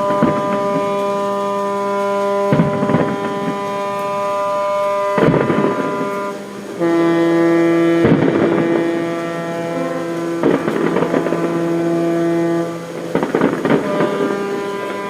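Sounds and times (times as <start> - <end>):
ships' horns blasting: 0.0 - 15.0.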